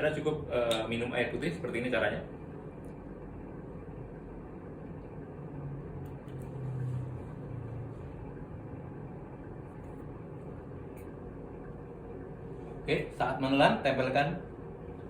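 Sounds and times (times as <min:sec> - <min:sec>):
fan-like room hum: 0:00.0 - 0:15.0.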